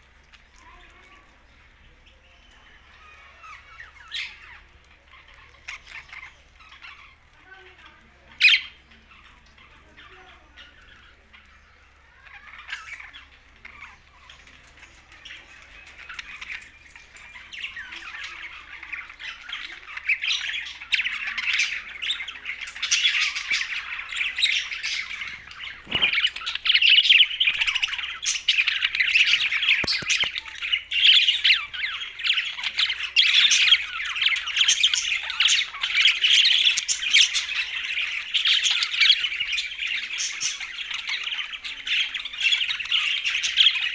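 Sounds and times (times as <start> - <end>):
budgerigars chattering and squawking: 0.0 - 43.9.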